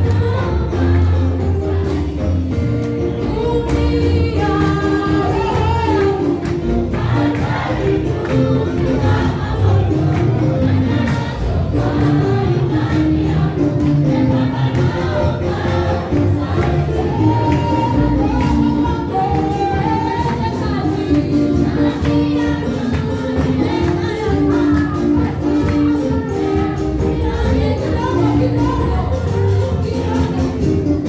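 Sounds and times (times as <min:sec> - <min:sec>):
group singing gospel song: 0:00.0 - 0:31.0
musical accompaniment: 0:00.0 - 0:31.0.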